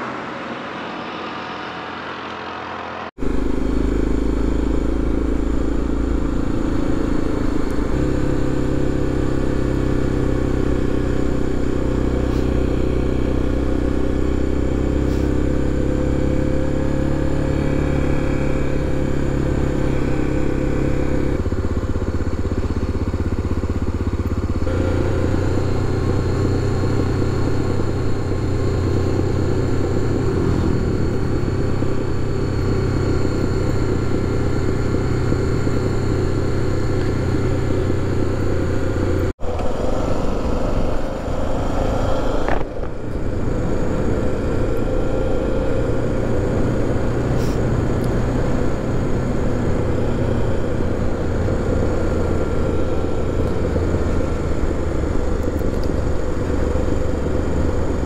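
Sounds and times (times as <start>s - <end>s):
motorcycle engine running: 3.2s - 58.0s.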